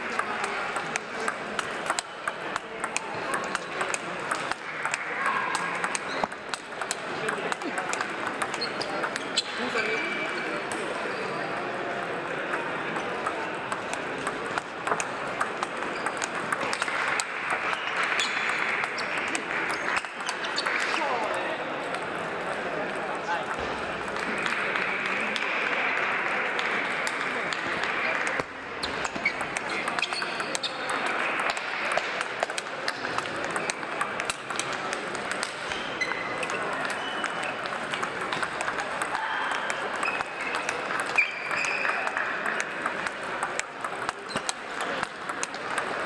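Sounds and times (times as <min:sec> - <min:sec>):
large hall background noise: 0:00.0 - 0:46.0
murmur of voices: 0:00.0 - 0:46.0
table tennis balls clicking: 0:00.0 - 0:46.0.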